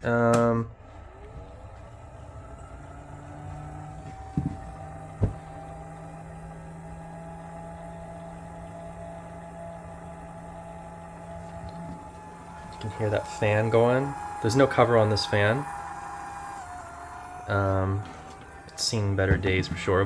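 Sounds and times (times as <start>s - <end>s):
cooling fan whining: 0.0s - 20.0s.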